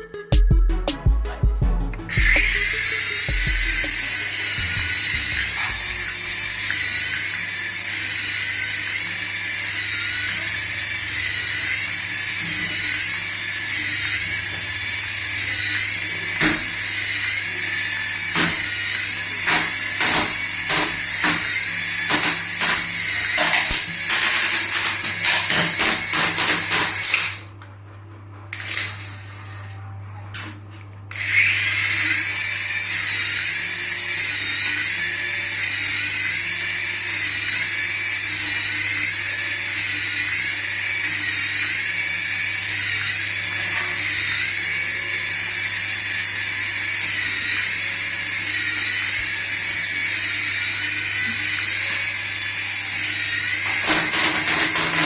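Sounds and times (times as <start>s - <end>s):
toy electronic whine: 0.0s - 1.1s, 1.8s - 27.4s, 28.5s - 30.5s, 31.1s - 55.0s.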